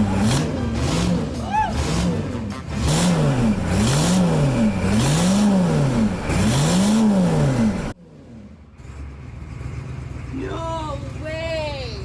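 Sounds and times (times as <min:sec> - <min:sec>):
diesel engine revving: 0:00.0 - 0:10.4.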